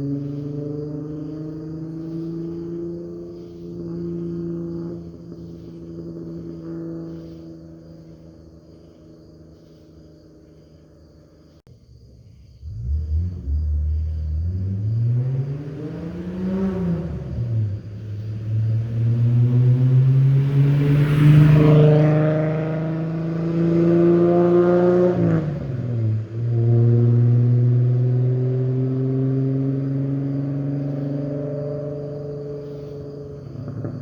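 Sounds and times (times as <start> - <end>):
car engine accelerating through gears: 0.0 - 9.8, 12.6 - 34.0.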